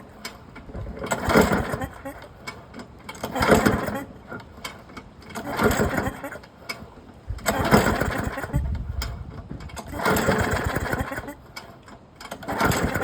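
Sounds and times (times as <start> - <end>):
mower engine cranking: 0.0 - 13.0.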